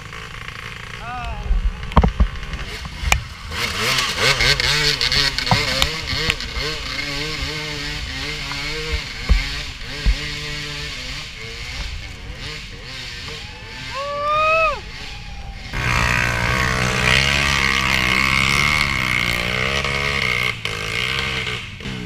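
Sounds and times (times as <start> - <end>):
dirt bike engines revving: 0.0 - 22.0
steady low engine note: 0.0 - 22.0.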